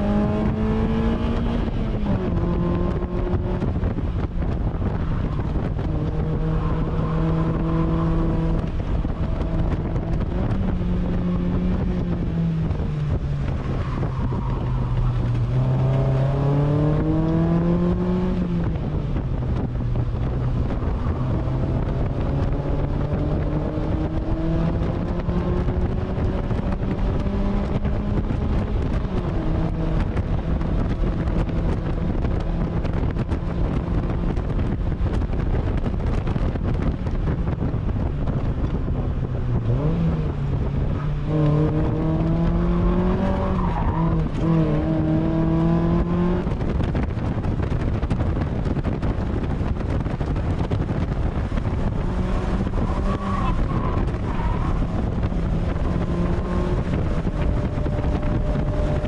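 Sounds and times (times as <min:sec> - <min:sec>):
car engine running hard: 0:00.0 - 0:59.0
wind and road noise: 0:00.0 - 0:59.0.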